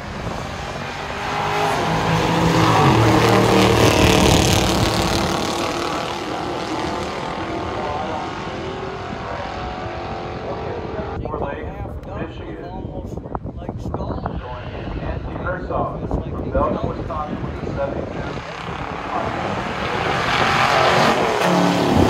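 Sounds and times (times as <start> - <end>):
car engines at full throttle: 0.0 - 12.2, 13.0 - 22.0.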